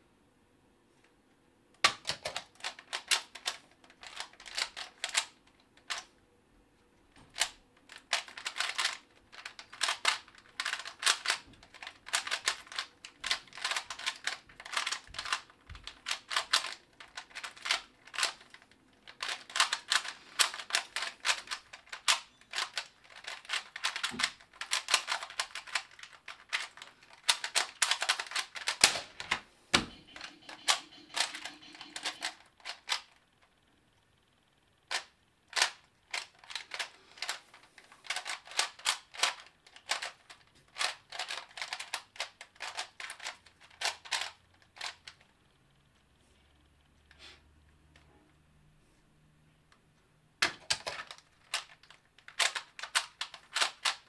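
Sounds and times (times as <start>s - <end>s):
puzzle cube plastic clicking: 1.8s - 6.1s, 7.2s - 33.5s, 34.8s - 45.3s, 50.4s - 54.0s.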